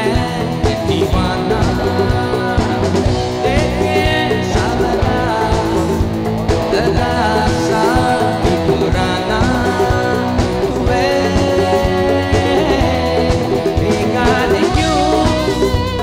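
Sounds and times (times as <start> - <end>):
guitar and instruments: 0.0 - 16.0
person singing: 0.0 - 16.0.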